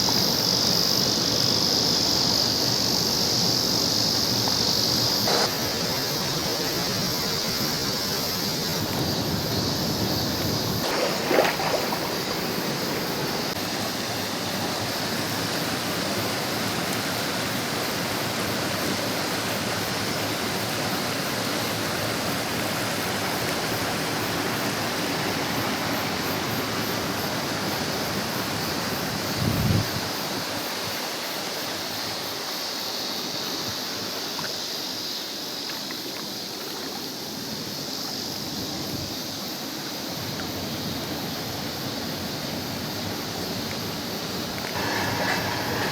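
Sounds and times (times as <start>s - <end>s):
stream rushing over rocks: 4.1s - 45.9s.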